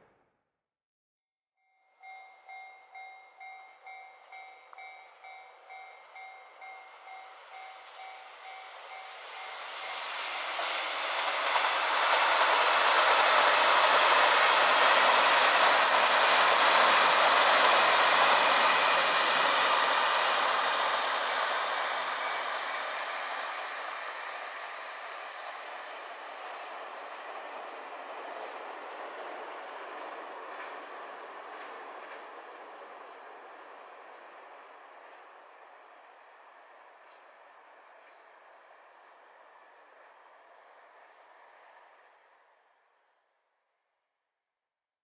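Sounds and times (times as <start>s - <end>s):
diesel train passing: 2.0s - 43.1s.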